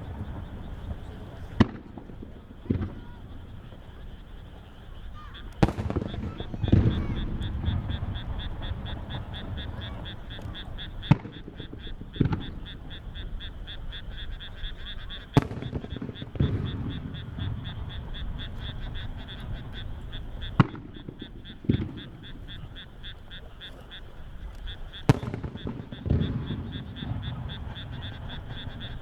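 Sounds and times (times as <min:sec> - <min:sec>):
firework shells bursting: 0:00.0 - 0:29.0.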